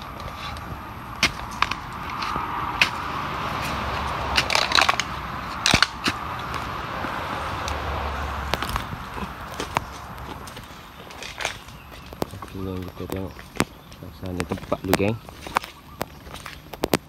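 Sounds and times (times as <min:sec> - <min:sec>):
stick clicking and cracking in mud: 0:00.0 - 0:07.8, 0:08.4 - 0:17.0.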